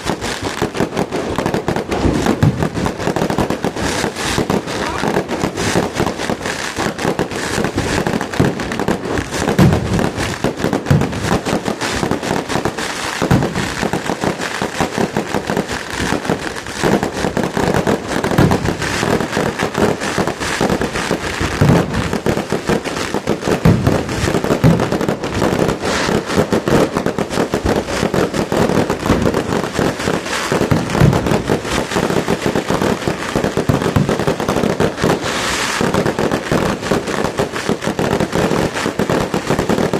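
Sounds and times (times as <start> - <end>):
deep firework booms: 0.0 - 39.9
firecrackers popping: 0.0 - 39.9.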